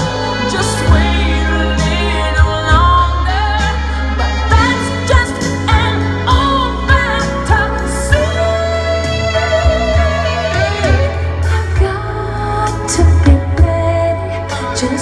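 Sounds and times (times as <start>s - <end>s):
pop song with singing: 0.0s - 15.0s
sustained bass: 0.0s - 15.0s.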